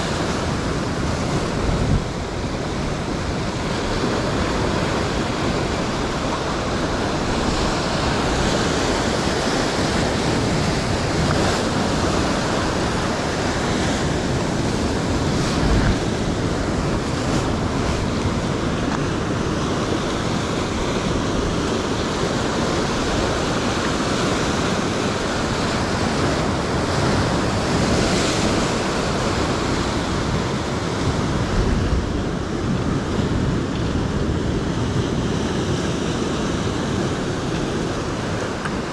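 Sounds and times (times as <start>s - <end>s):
ocean surf over rocks: 0.0s - 38.9s.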